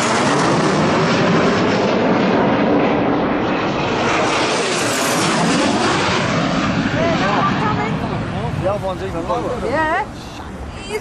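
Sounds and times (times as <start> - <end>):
jet engines rushing past: 0.0 - 11.0.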